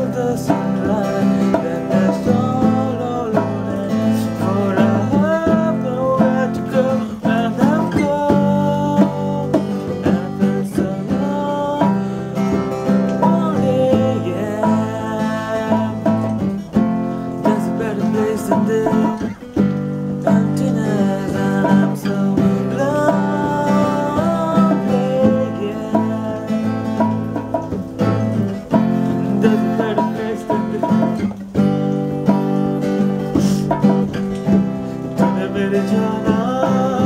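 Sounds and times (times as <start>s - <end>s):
acoustic guitar strumming chords: 0.0s - 37.0s
man singing: 0.0s - 37.0s.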